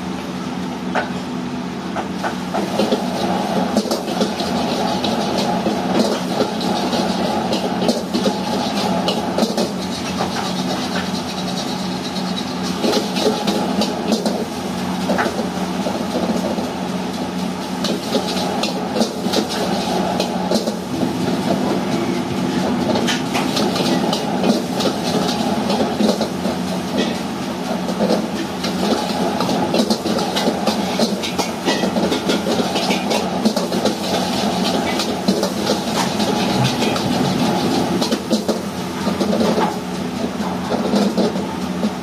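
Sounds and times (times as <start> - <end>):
electric fan: 0.0 - 42.0
wok burner roaring: 0.0 - 42.0.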